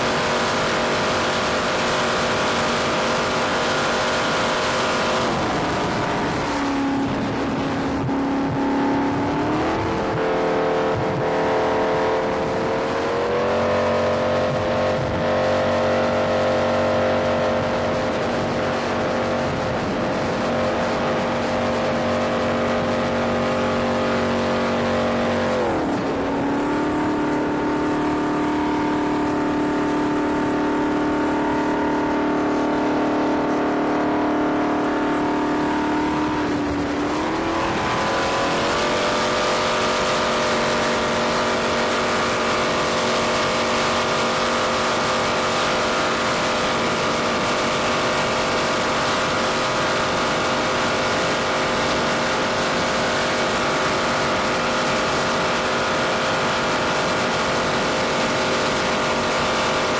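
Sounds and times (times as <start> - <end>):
jet boat engine running: 0.0 - 59.9
rushing water and spray hiss: 0.0 - 59.9.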